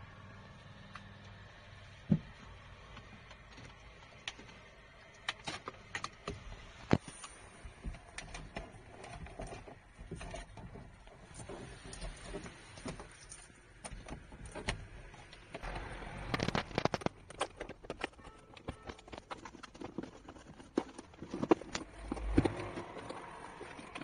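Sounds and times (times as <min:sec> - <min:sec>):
cable clicks and taps: 0:02.1 - 0:24.0.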